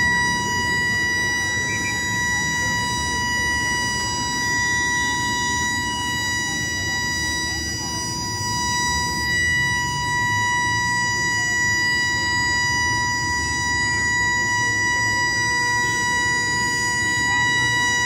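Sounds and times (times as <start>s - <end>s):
lower tone: 0.0s - 18.0s
murmur of outdoor crowd: 0.0s - 18.0s
steady high-pitched tone: 0.0s - 18.0s.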